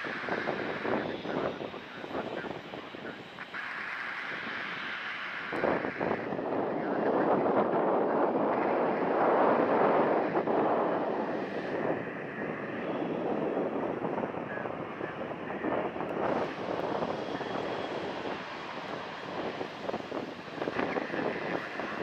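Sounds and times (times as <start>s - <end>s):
faint high whine: 0.0s - 22.0s
jet airliner engines passing: 0.0s - 22.0s.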